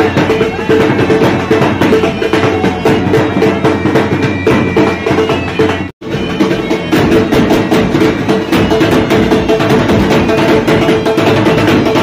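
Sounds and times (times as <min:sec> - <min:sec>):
music with drums and percussion: 0:00.0 - 0:12.0.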